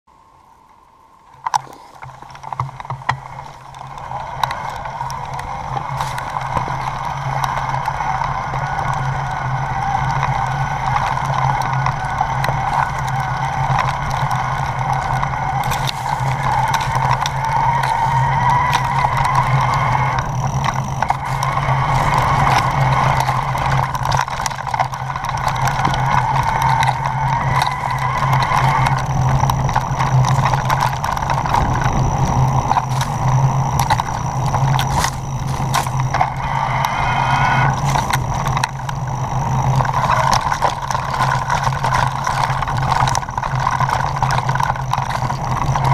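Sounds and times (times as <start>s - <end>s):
bike rolling with buzzing rush: 0.1s - 45.9s
steady low hum: 0.1s - 45.9s
bike rattling over stones: 1.3s - 45.9s.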